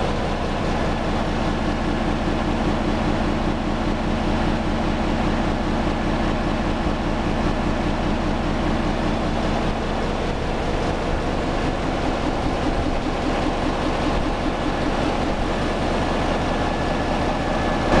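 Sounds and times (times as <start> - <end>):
diesel generator engine droning: 0.0 - 18.0.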